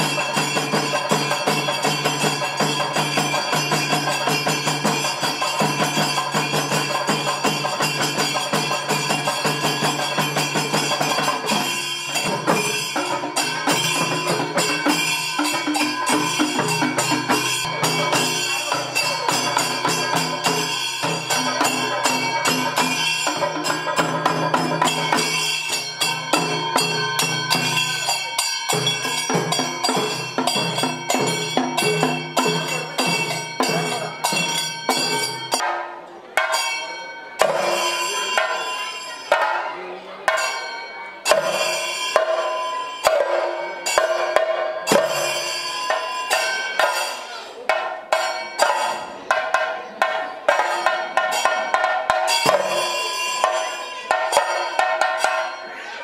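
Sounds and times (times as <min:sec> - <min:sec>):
rapid percussion strokes: 0:00.0 - 0:56.0.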